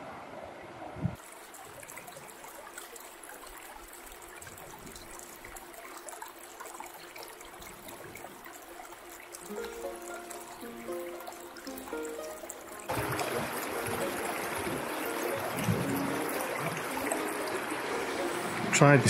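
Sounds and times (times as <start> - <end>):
water trickling and babbling: 1.2 - 19.0.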